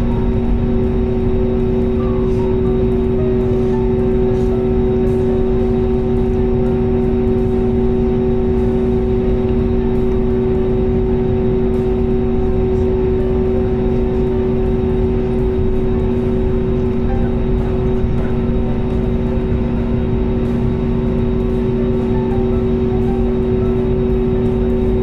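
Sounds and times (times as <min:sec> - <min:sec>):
jet engines drone in cabin: 0:00.0 - 0:25.0.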